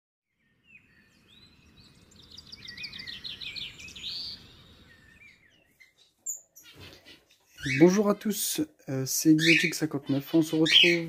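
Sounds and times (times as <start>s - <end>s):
finches chirping and singing: 0.3s - 8.6s, 9.3s - 11.0s.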